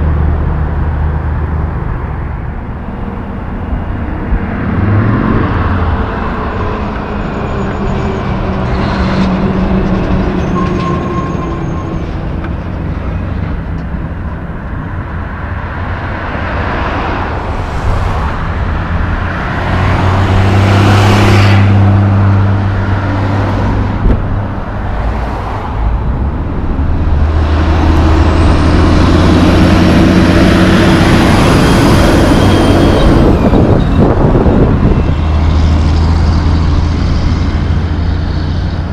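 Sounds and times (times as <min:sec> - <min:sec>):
traffic passing on road: 0:00.0 - 0:38.9
truck diesel engine with whine: 0:00.0 - 0:38.9.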